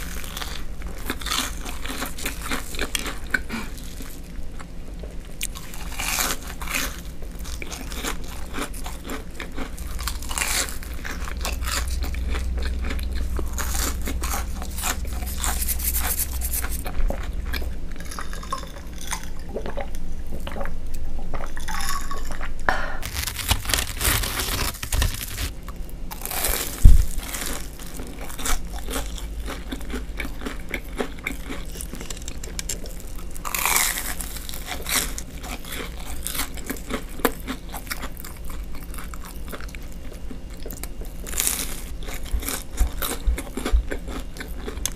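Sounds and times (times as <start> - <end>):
crunching and chewing: 0.0 - 44.9.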